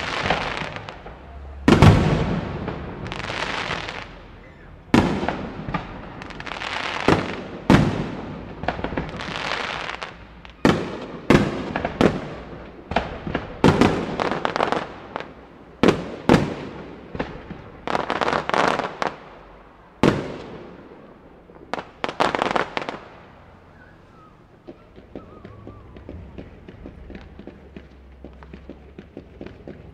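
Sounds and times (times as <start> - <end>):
firework crackling: 0.0 - 29.9.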